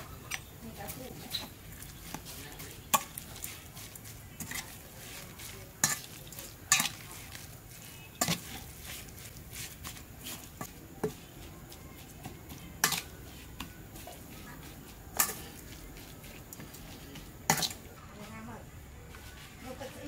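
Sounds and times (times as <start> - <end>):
ladle stirring in metal bowl: 0.0 - 18.5.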